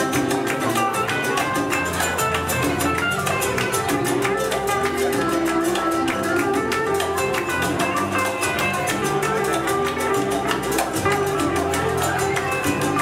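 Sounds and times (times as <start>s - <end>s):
live band playing: 0.0s - 13.0s
strummed guitars: 0.0s - 13.0s.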